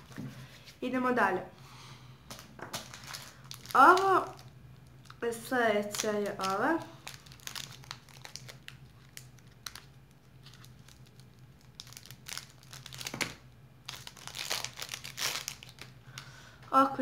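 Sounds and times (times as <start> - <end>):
plastic wrapper crinkling: 2.3 - 16.3.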